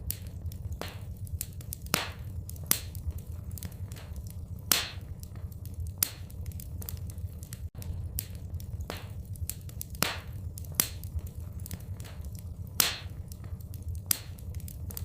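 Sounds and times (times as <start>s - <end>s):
loud fire pops: 0.0s - 15.0s
low rumble: 0.0s - 15.0s
wood fire crackling: 0.0s - 15.0s.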